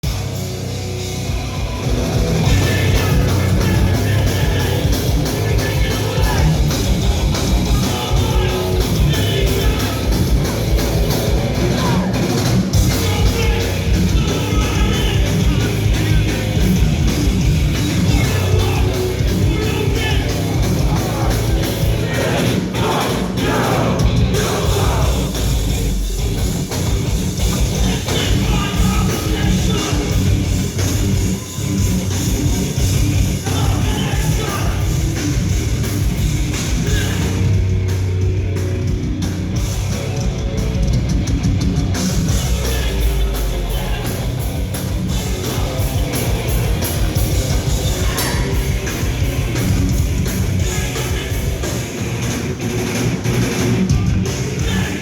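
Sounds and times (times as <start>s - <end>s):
heavy rock band playing: 0.0s - 55.0s.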